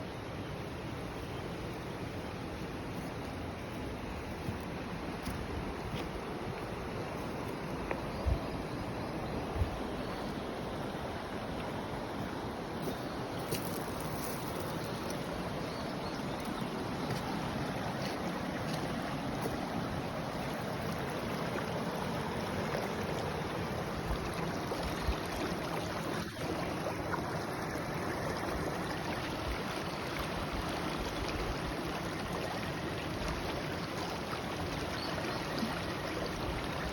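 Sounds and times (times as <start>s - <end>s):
river current rushing: 0.6s - 30.3s.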